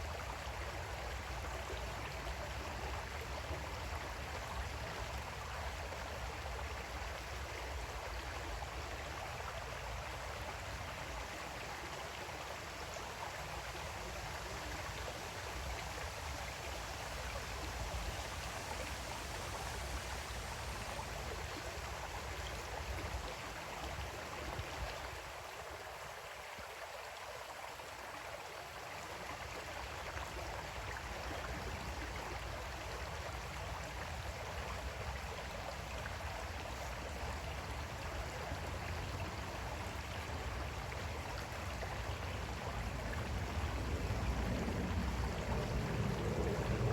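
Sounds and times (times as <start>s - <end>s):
creek water flowing over stones: 0.0s - 46.9s.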